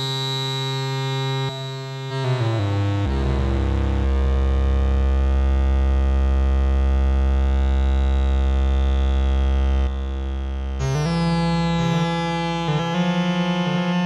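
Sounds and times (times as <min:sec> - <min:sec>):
bass synthesizer low note: 0:01.3 - 0:14.0.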